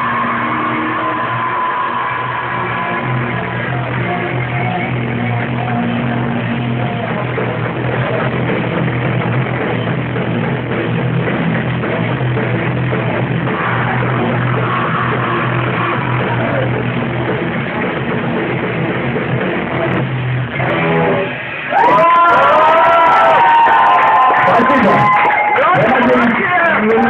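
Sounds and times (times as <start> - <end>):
distorted electric guitars: 0.0 - 27.0
drum kit: 0.0 - 27.0.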